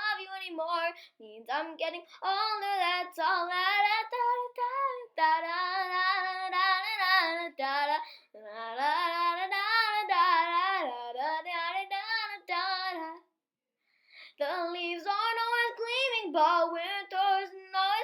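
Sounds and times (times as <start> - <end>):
child singing wordless melody: 0.0 - 13.2, 14.4 - 18.0.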